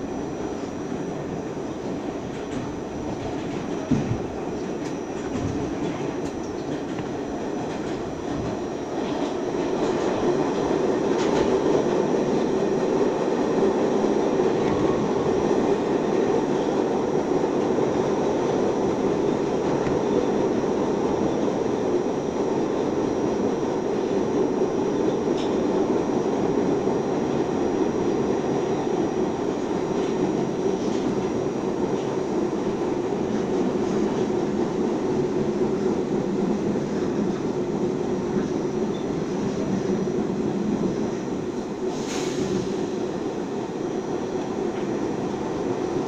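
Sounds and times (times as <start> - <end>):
subway train rumbling: 0.0 - 46.0.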